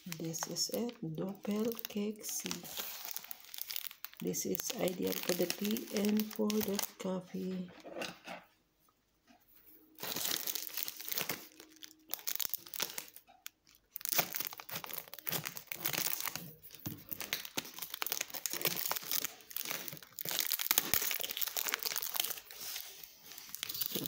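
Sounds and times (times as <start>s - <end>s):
wrapper crinkling and tearing: 0.0s - 7.1s, 10.0s - 24.0s.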